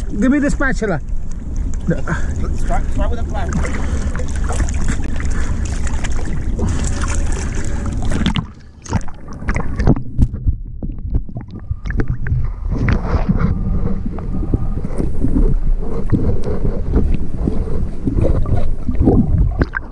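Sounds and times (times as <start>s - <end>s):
low underwater rumble: 0.0s - 19.9s
water splashing: 0.0s - 19.9s
wind on microphone: 1.1s - 19.9s
underwater clicks and knocks: 3.4s - 19.9s.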